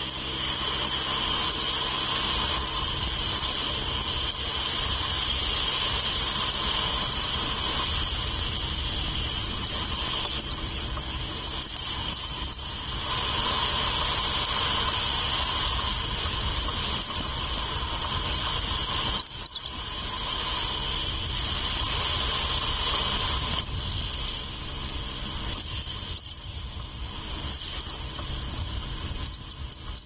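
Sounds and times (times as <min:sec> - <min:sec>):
insects chorus: 0:00.0 - 0:30.0.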